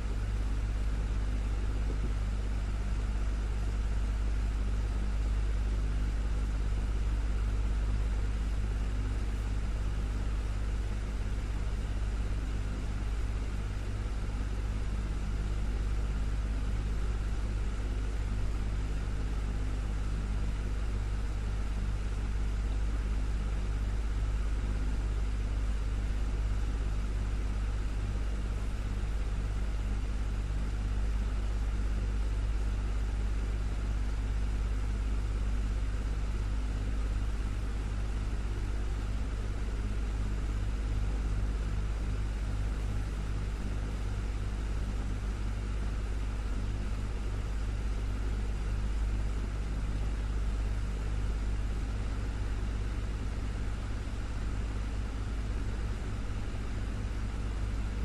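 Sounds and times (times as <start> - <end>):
desktop fan running: 0.0 - 58.0.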